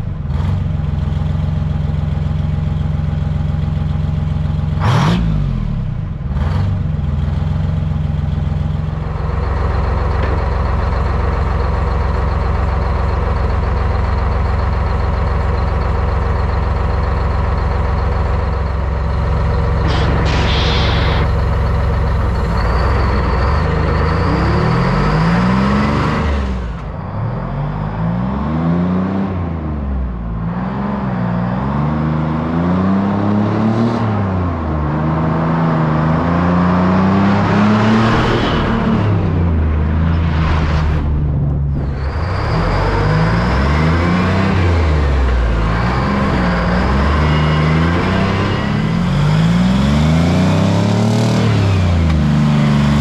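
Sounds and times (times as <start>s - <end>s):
large engine running: 0.0s - 28.0s, 36.8s - 53.0s.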